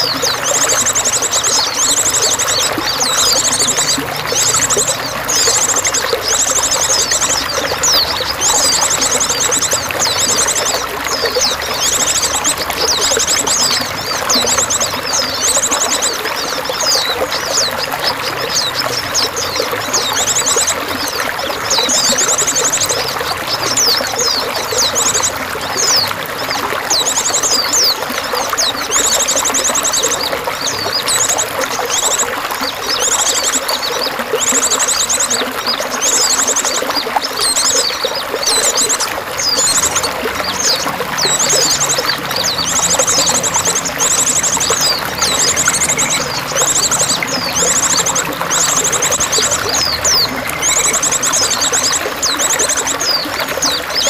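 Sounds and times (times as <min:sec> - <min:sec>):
running water splashing: 0:00.0 - 0:54.0
small birds chirping and trilling: 0:00.0 - 0:54.0.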